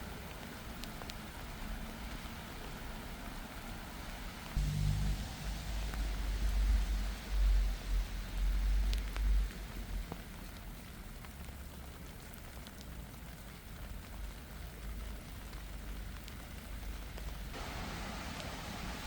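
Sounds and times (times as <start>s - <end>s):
tyres hissing on wet road: 0.0s - 11.9s, 14.6s - 19.0s
steady rain: 0.0s - 19.0s.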